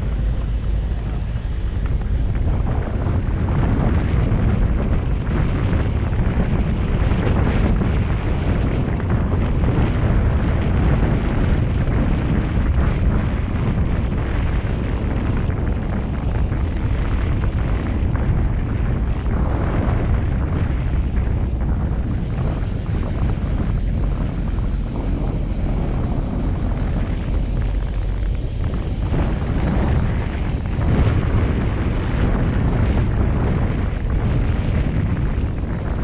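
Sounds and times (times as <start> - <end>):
tyres on asphalt: 0.0 - 36.0
wind buffeting microphone: 0.0 - 36.0.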